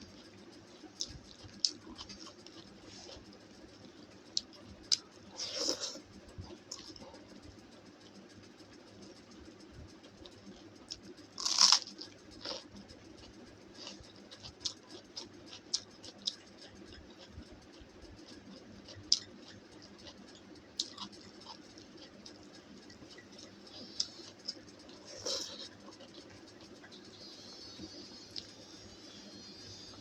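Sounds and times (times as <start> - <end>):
person chewing: 0.0 - 7.4, 10.1 - 30.0
food crunching: 0.1 - 7.3, 10.1 - 28.6.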